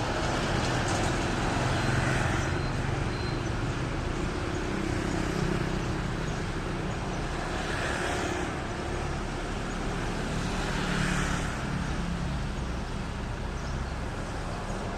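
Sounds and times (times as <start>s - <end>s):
distant road traffic: 0.0s - 14.9s.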